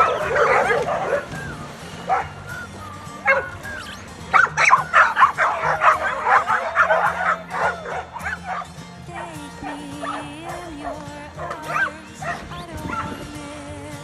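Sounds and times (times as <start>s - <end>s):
dogs barking and yipping: 0.0s - 13.5s.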